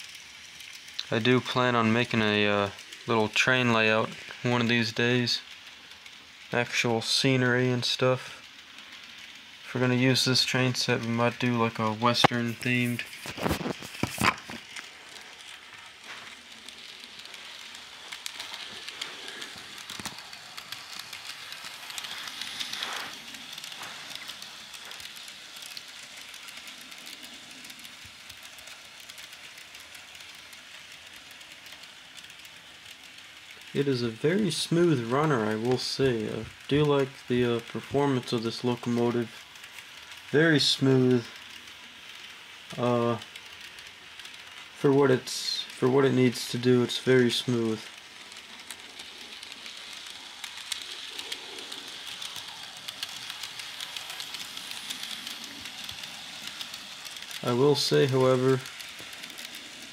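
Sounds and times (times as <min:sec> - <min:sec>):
model train whirring: 0:00.0 - 0:59.9
wheels clicking on rails: 0:00.0 - 0:59.9.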